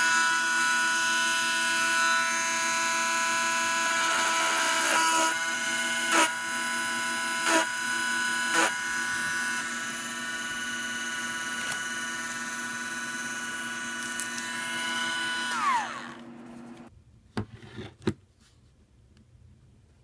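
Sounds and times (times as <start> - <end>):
rotary tool whining: 0.0 - 16.9.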